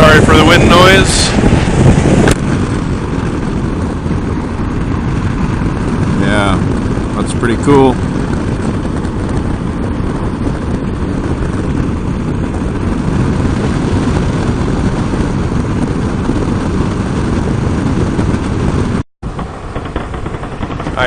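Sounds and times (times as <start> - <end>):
motorcycle running noise: 0.0 - 21.0
wind buffeting microphone: 0.0 - 21.0.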